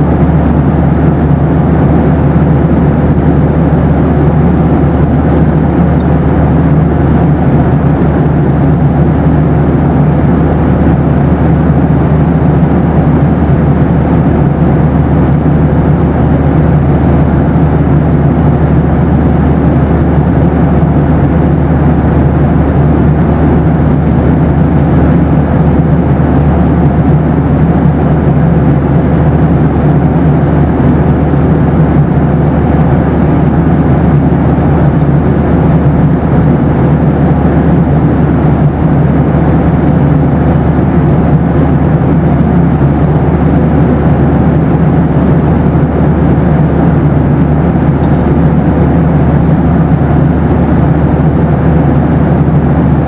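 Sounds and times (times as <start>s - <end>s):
aircraft cabin engine roar: 0.0s - 53.0s
faint steady hum: 0.0s - 53.0s.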